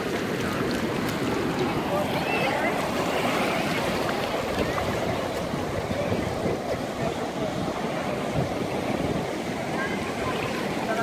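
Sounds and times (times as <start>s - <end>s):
surf washing over rocks: 0.0s - 11.0s
wind on microphone: 0.0s - 11.0s.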